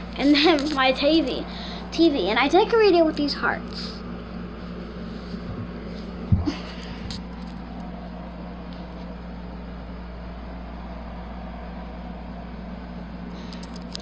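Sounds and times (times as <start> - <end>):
low background hum with hiss: 0.0 - 14.0.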